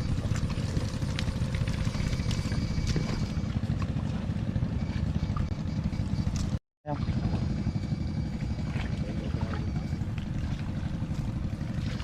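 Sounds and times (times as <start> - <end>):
boat motor chugging: 0.0 - 12.0.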